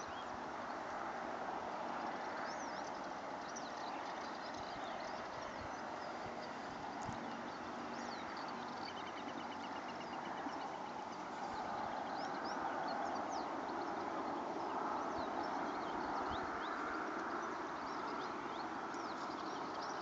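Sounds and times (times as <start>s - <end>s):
small birds chirping: 1.6s - 20.0s.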